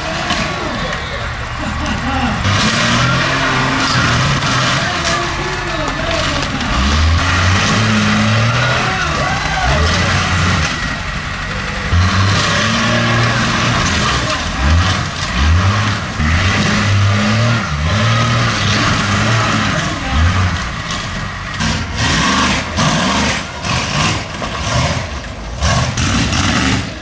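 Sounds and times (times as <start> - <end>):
cars being crushed: 0.0 - 27.0
monster truck engine revving: 0.0 - 27.0.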